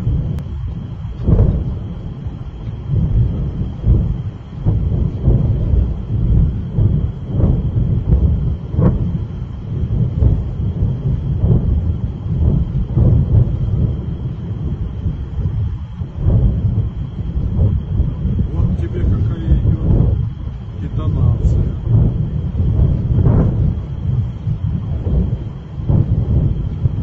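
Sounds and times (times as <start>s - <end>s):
low rumble of distant explosions: 0.0s - 27.0s
sudden booms: 0.0s - 27.0s.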